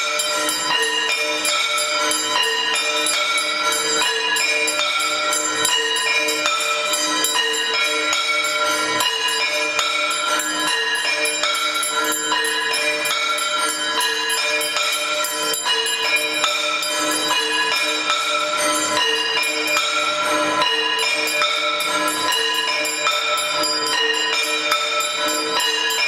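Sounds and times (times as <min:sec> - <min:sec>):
bells ringing rapidly: 0:00.0 - 0:26.0.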